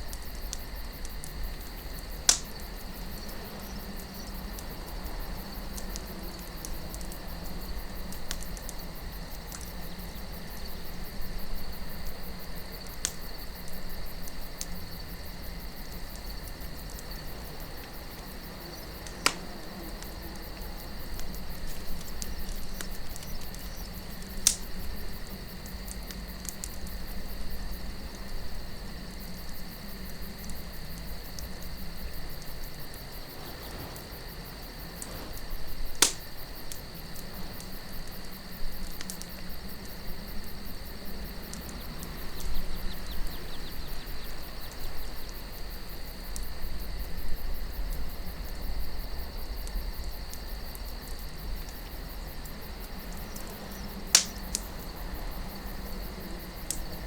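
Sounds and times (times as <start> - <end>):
campfire crackling and popping: 0.0 - 57.0
crickets trilling: 0.0 - 57.0
low wind rush: 0.7 - 50.2.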